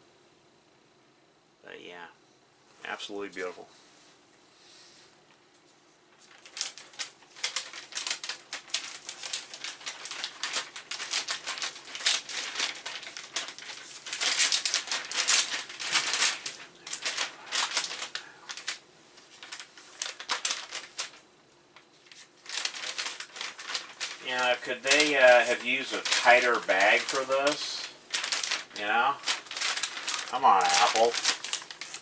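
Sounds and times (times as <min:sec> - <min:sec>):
plastic bag crinkling: 0:06.1 - 0:32.0.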